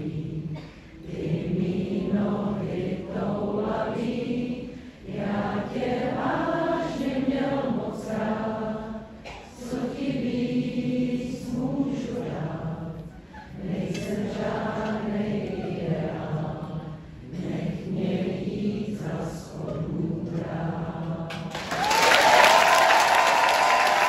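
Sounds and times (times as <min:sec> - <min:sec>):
choir singing wordless notes: 0:00.0 - 0:21.8.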